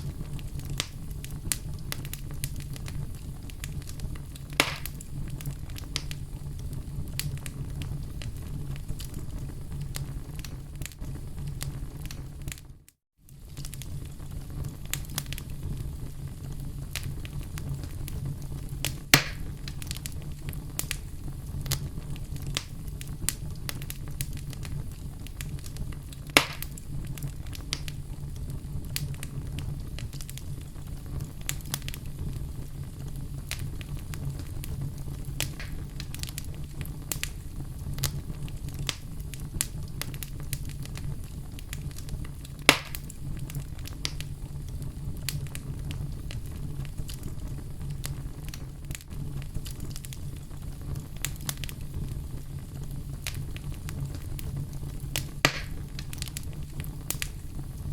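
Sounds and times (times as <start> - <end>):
campfire crackling: 0.0 - 57.9
fire popping: 0.0 - 57.9.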